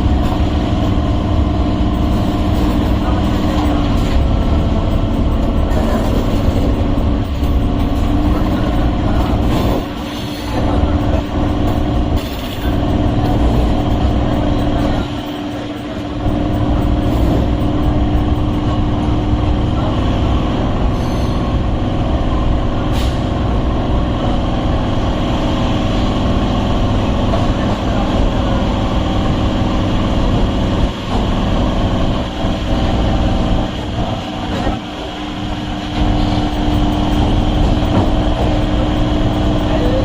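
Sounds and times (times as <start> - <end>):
electric train running: 0.0 - 40.0.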